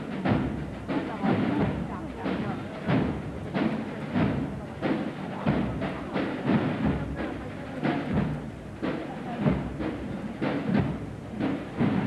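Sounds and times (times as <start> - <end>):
drums beating: 0.0 - 12.0.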